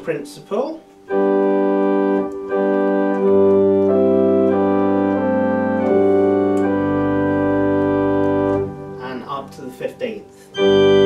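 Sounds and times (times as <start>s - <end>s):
organ pedal bass notes: 0.0s - 11.0s
organ playing sustained chords: 0.0s - 11.0s.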